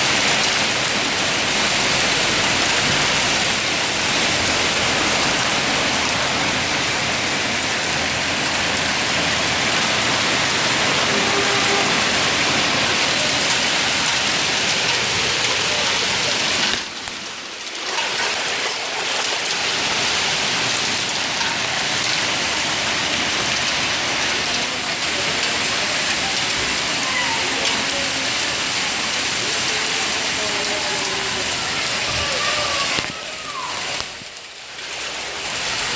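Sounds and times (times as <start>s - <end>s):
heavy rain on hard surfaces: 0.0s - 35.9s.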